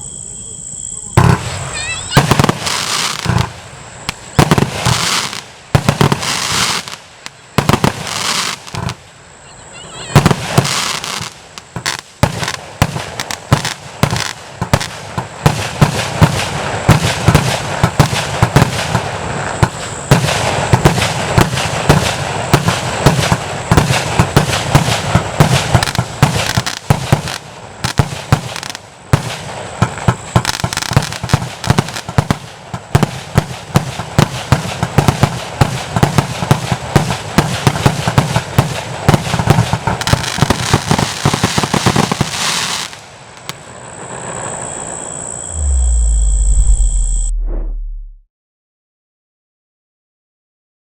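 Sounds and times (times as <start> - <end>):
firework barrage of bangs and crackling: 1.0 - 48.1.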